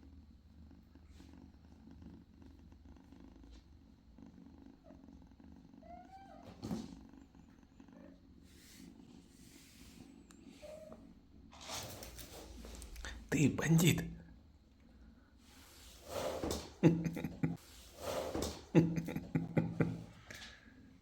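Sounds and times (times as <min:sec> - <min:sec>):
kitten purring: 0:00.0 - 0:14.1, 0:15.3 - 0:21.0.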